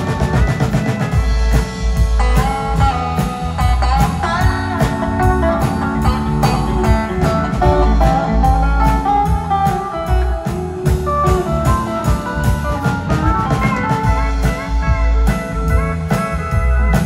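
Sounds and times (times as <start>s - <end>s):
bass guitar: 0.0s - 17.0s
drum kit beat: 0.0s - 17.0s
electric guitar: 0.0s - 17.0s
pedal steel guitar: 0.0s - 17.0s.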